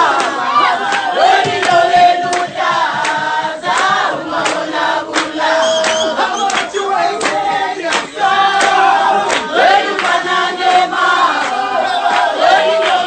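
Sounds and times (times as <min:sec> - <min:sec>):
group singing a chorus: 0:00.0 - 0:13.0.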